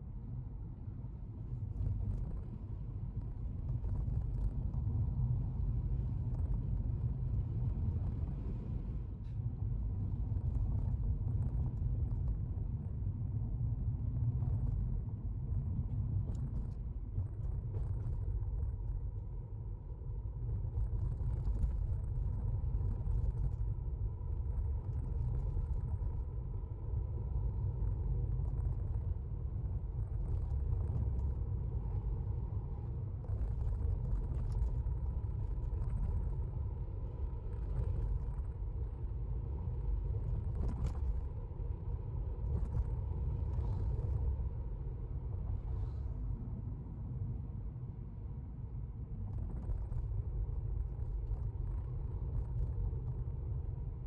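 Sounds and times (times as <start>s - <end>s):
faint steady hum: 0.0s - 54.0s
road and engine rumble: 0.0s - 54.0s.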